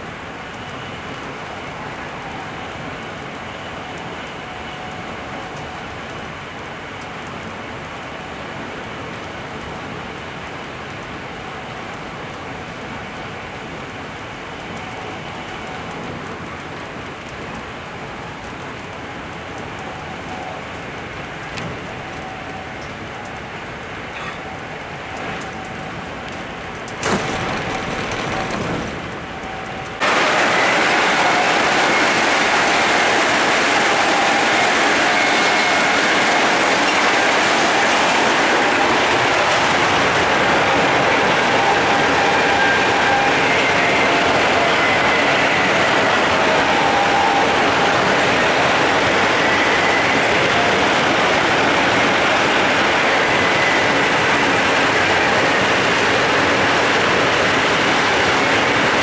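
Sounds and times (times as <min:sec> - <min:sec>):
train wheel and air noise: 0:00.0 - 0:59.0.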